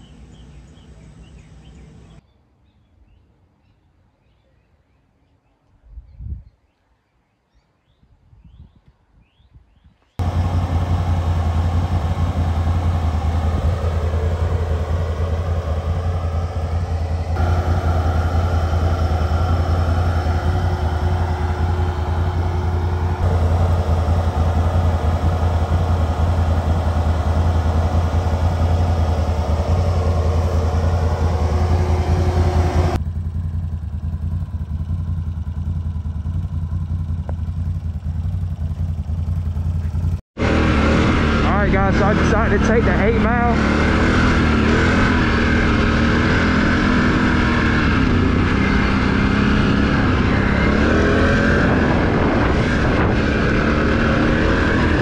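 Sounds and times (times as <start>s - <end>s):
atv engine idling: 0.0s - 2.2s, 10.2s - 52.5s.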